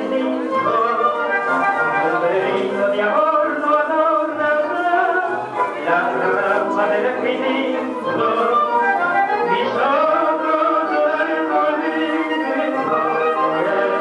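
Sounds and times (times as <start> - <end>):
man singing: 0.0 - 14.0
tango orchestra music: 0.0 - 14.0.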